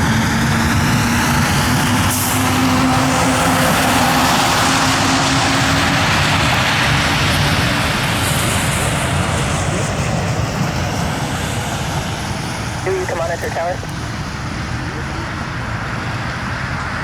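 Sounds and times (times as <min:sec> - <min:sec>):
jet engines at take-off thrust: 0:00.0 - 0:17.0.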